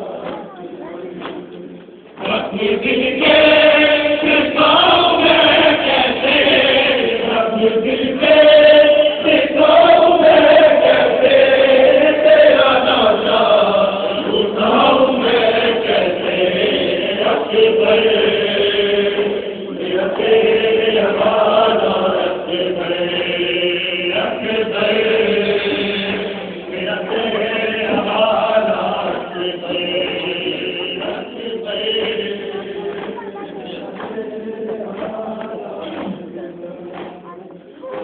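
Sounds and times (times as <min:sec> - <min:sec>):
group chanting with held notes: 0:00.0 - 0:01.4, 0:02.1 - 0:38.0.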